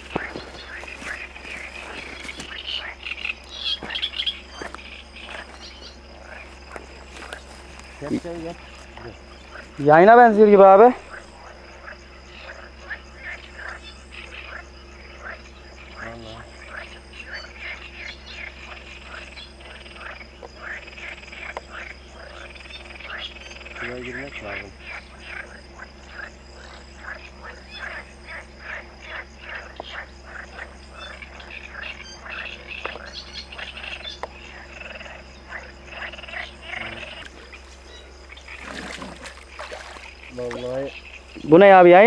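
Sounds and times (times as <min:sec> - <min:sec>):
frogs croaking: 0:00.0 - 0:42.0
low steady hum: 0:00.0 - 0:42.0.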